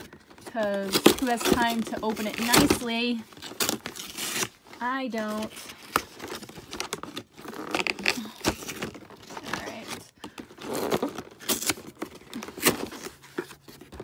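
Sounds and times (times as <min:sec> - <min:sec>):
packaging being torn and crumpled: 0:00.8 - 0:04.6, 0:05.5 - 0:13.6.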